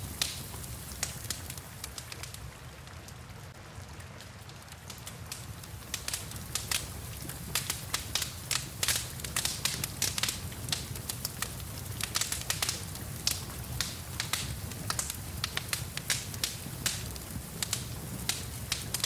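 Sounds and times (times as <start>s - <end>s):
rain falling: 0.0s - 19.0s
wood fire crackling: 0.0s - 19.0s.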